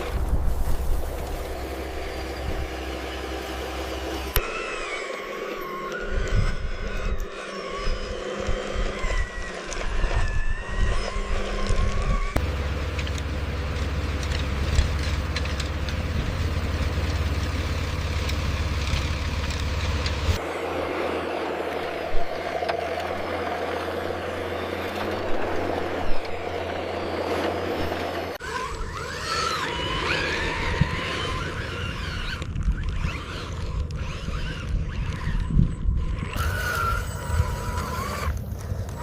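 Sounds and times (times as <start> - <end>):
high sliding squeal-like tones: 0.0 - 12.4, 20.2 - 39.0
engine-like drone: 0.0 - 39.0.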